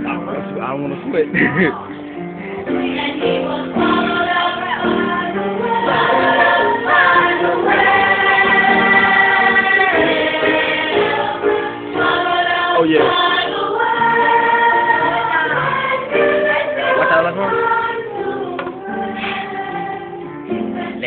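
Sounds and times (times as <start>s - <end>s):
choir singing: 1.3s - 21.0s.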